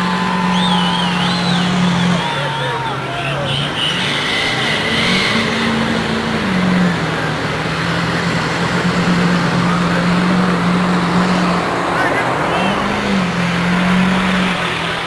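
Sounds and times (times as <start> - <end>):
truck engines revving under load: 0.0 - 15.0.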